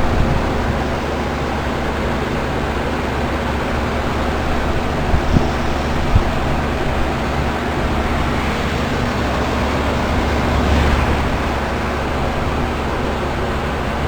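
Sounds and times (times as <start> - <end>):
condenser fan whoosh: 0.0 - 14.0
low compressor hum: 0.0 - 14.0.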